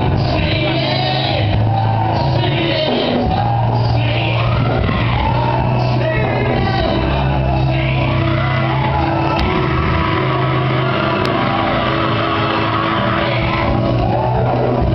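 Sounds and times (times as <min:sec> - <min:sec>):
church music with bass notes: 0:00.0 - 0:14.9
shouts: 0:00.0 - 0:14.9.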